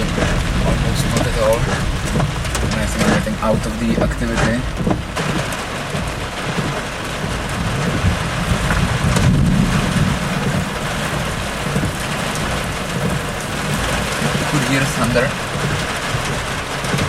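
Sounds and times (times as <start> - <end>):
rain on a car: 0.0 - 17.0
thunder rumbling: 0.0 - 17.0.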